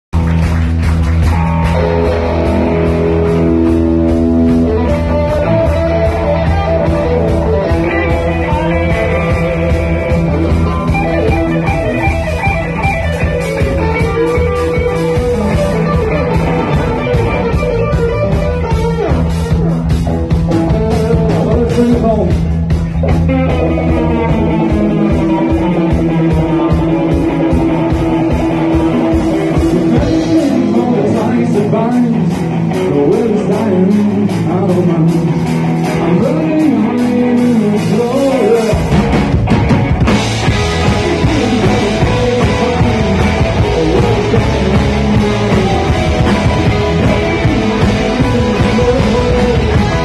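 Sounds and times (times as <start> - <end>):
rock band playing: 0.1 - 50.0
lead guitar bending notes: 0.2 - 50.0.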